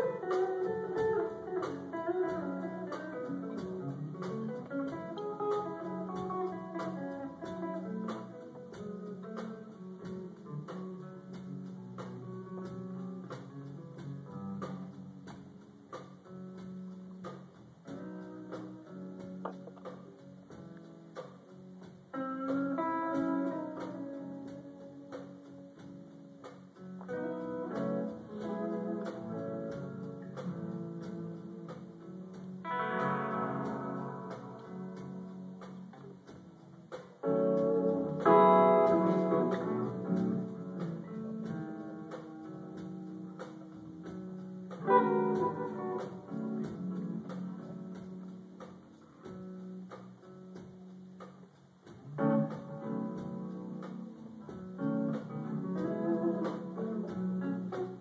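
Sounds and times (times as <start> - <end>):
electric guitar melody and chords: 0.0 - 58.0.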